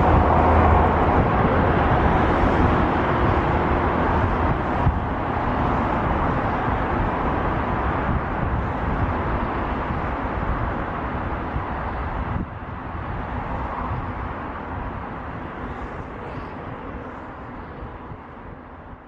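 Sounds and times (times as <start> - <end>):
jet engines roaring: 0.0 - 18.5.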